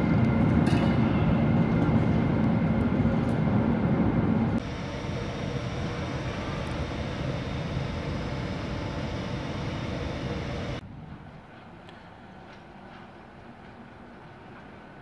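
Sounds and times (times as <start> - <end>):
electric locomotive running noise: 0.0 - 15.0
open station background: 0.0 - 15.0.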